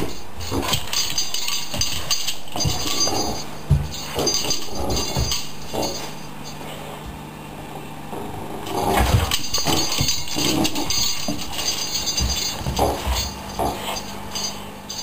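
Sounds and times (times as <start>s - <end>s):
knocks and scuffles: 0.0s - 7.2s, 8.8s - 14.2s
paws scrabbling on tile floor: 0.0s - 7.2s, 8.7s - 15.0s.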